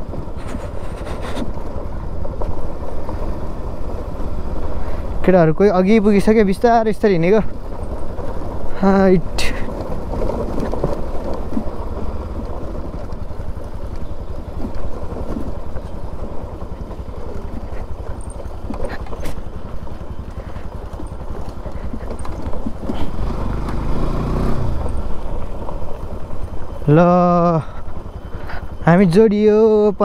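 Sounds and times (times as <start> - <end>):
motorcycle engine running: 0.0 - 30.0
stones crunching under tyres: 0.0 - 30.0.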